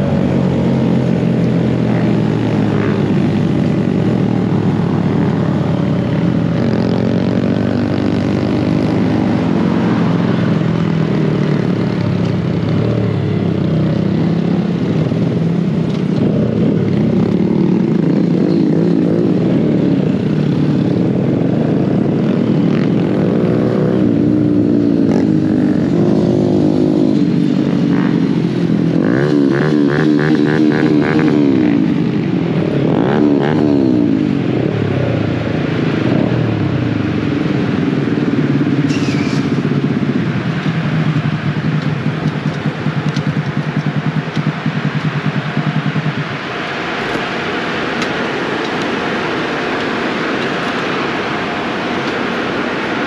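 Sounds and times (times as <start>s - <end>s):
mini bike engines revving: 0.0s - 53.0s.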